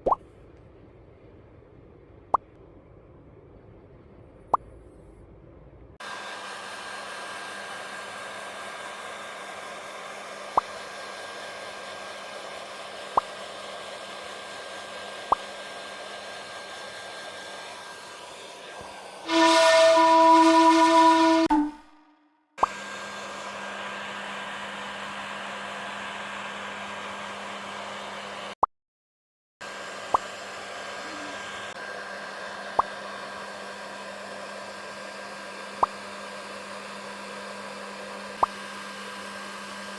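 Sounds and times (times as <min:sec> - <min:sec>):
hair dryer blowing: 0:06.0 - 0:22.0, 0:22.6 - 0:28.6, 0:29.6 - 0:39.9.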